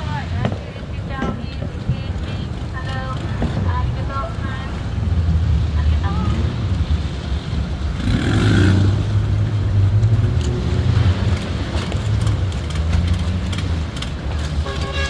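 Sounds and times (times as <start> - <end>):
speedboat engines droning: 0.0 - 15.0.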